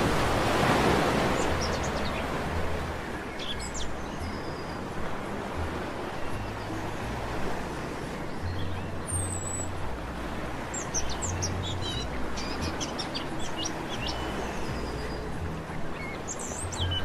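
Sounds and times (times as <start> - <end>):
birds chirping: 0.0 - 17.0
sea surf washing: 0.0 - 17.0.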